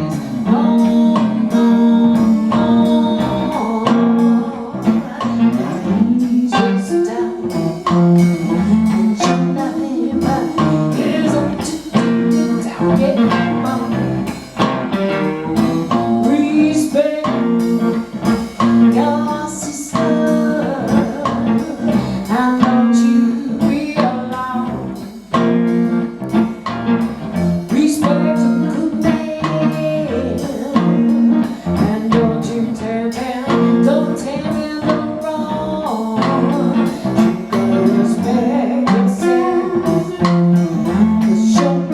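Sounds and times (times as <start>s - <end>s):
blues band playing live: 0.0s - 41.9s
guitar: 0.0s - 41.9s
person singing: 0.0s - 41.9s.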